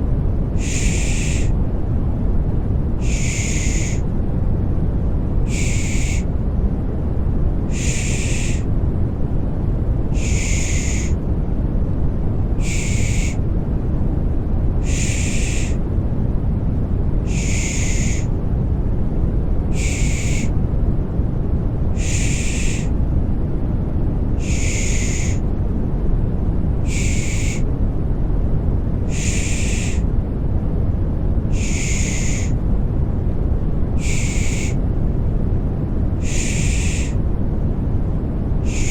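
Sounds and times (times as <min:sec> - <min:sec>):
deep white noise: 0:00.0 - 0:38.9.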